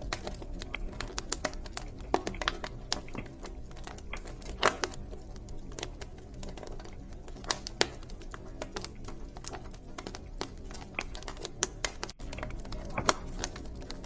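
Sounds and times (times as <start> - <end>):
low rumble of flames: 0.0 - 14.0
wood fire crackling: 0.0 - 14.0.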